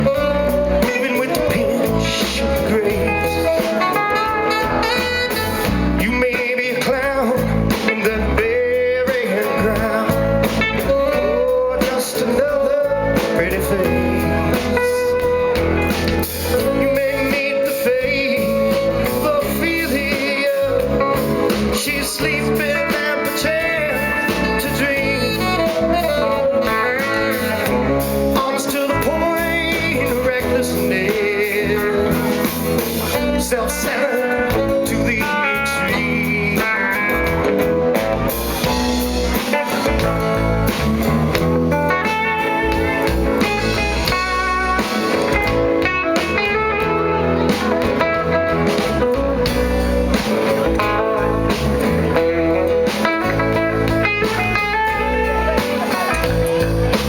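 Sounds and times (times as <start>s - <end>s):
bass and drums: 0.0s - 57.0s
electric guitar lead: 0.0s - 57.0s.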